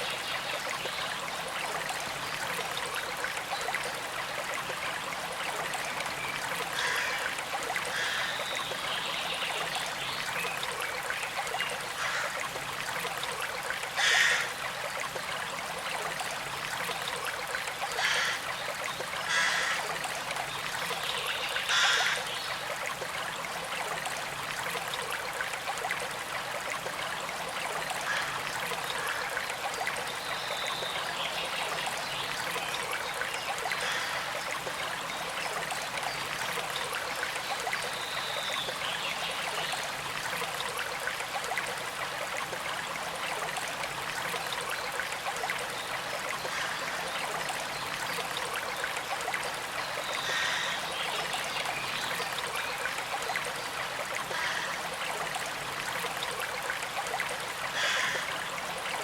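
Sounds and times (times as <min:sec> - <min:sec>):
creek trickling and flowing: 0:00.0 - 0:59.0.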